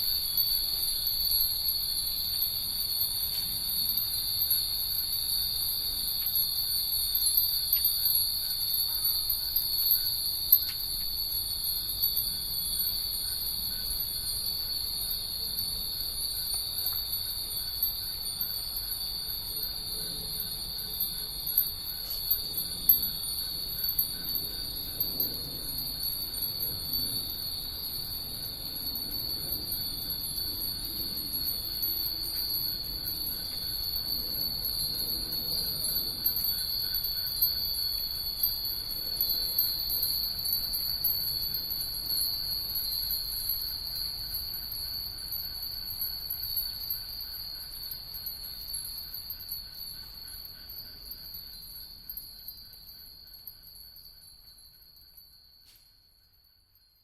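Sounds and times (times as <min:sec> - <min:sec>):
wind bells tinkling: 0:00.0 - 0:57.0.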